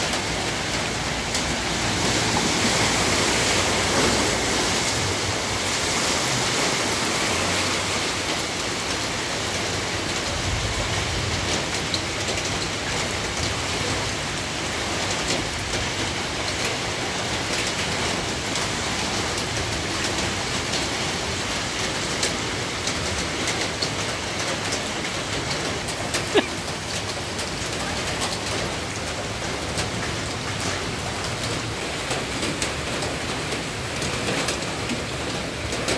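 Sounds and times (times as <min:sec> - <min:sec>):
heavy rain falling: 0:00.0 - 0:35.9
raindrops hitting a surface: 0:00.0 - 0:35.9.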